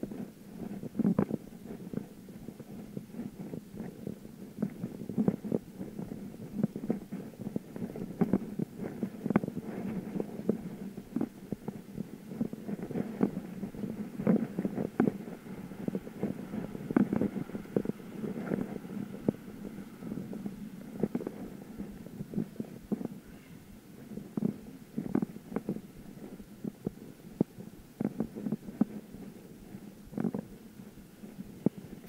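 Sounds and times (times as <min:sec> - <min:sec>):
bicycle rumbling and rattling: 0:00.0 - 0:32.0.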